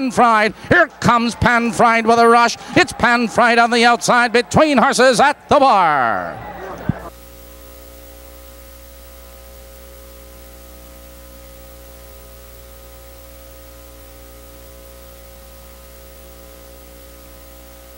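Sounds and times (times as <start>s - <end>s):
electrical hum: 0.0s - 17.9s
steady tape hiss: 0.0s - 17.9s.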